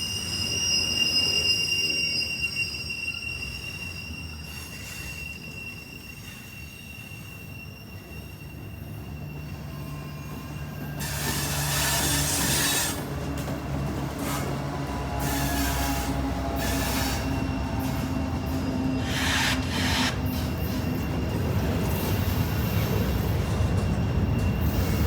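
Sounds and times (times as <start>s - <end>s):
rumble of freight cars: 0.0s - 25.0s
train wheels squealing on rail: 0.0s - 25.0s.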